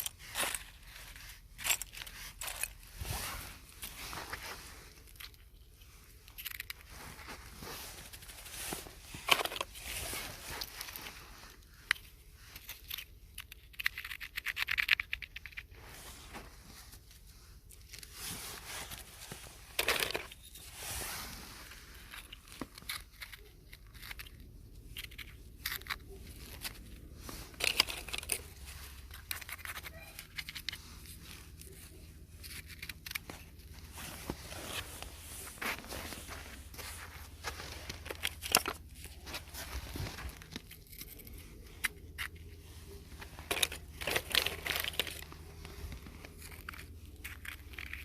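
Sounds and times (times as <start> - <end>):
rustling scraping and tearing: 0.0 - 48.0.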